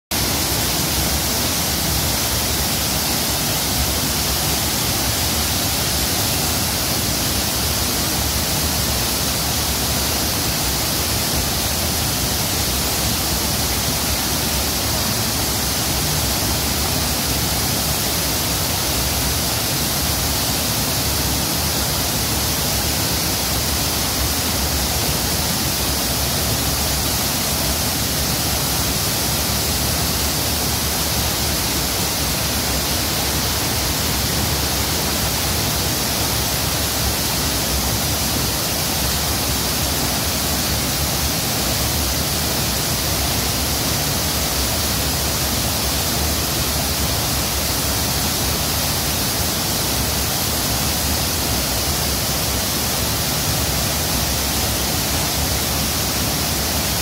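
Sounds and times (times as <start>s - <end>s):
waterfall rushing: 0.1s - 57.0s.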